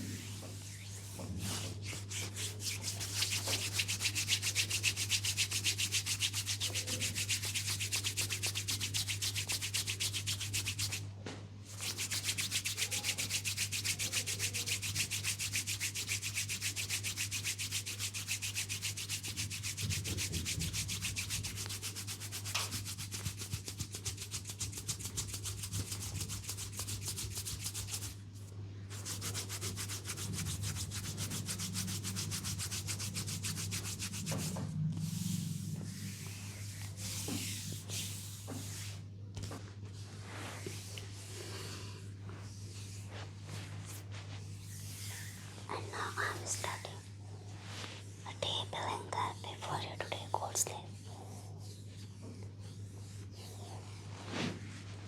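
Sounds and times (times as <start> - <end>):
hands rubbing oiled skin: 0.6 - 11.1, 11.7 - 28.3, 28.9 - 39.6, 40.3 - 47.0.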